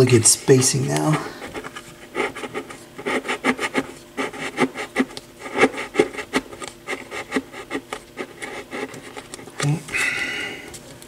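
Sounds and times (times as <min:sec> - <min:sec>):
card shims scraping: 0:00.9 - 0:09.8.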